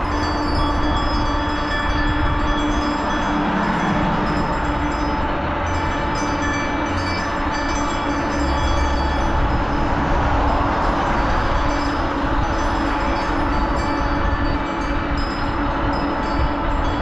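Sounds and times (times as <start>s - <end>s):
wind and road noise: 0.0s - 17.0s
wind rumble on microphone: 0.0s - 17.0s.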